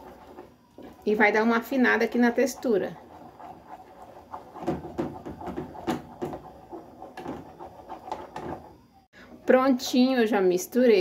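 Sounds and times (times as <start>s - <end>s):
utensil scraping a saucepan: 0.0s - 8.8s.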